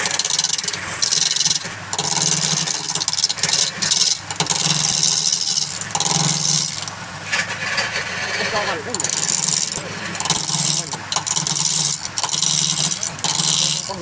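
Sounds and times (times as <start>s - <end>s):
lathe motor humming: 0.0s - 7.3s, 7.9s - 14.0s
turning tool cutting wood: 0.0s - 14.0s.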